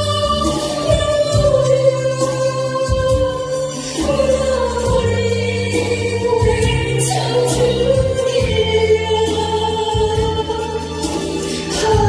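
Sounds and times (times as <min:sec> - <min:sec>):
instrumental accompaniment: 0:00.0 - 0:12.0
woman singing into microphone: 0:00.0 - 0:12.0.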